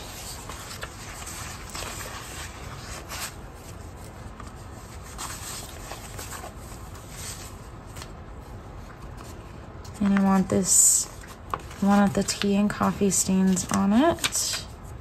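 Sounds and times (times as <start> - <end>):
sticker sheets rustling: 0.0 - 15.0.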